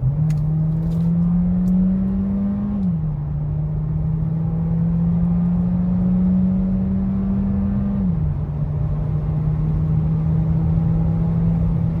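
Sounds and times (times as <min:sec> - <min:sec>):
car engine accelerating: 0:00.0 - 0:12.0
road rumble: 0:00.0 - 0:12.0.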